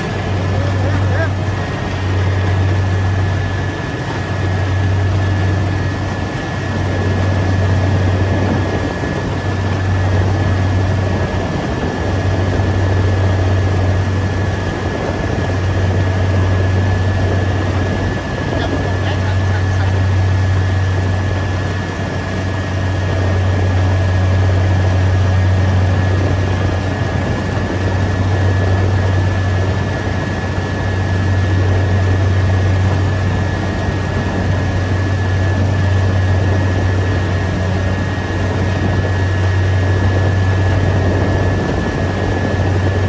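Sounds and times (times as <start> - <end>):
combine harvester engine hum: 0.0 - 43.0.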